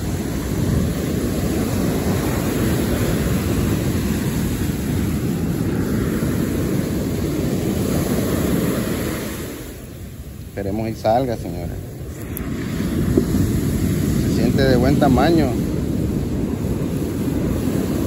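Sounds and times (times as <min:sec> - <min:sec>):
surf breaking on beach: 0:00.0 - 0:18.0.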